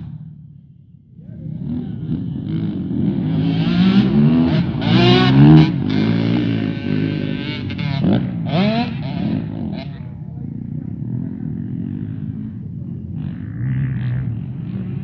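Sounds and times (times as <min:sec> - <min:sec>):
motorbike engines revving past: 0:01.4 - 0:15.0.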